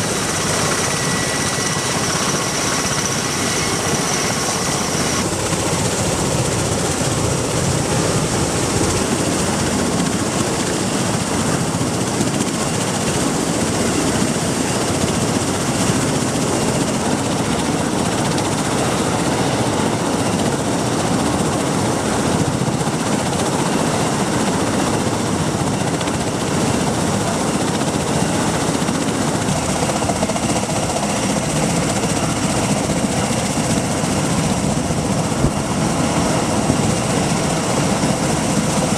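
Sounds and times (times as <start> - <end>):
aircraft rotors and engines running: 0.0 - 38.9.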